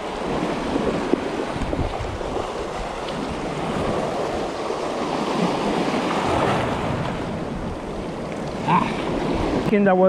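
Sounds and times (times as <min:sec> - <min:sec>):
small waves washing onto sand: 0:00.0 - 0:10.0
wind buffeting microphone: 0:00.0 - 0:10.0.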